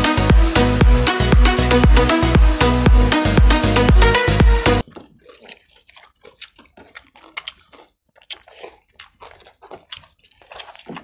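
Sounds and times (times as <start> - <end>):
people chewing and biting food: 0.0 - 11.0.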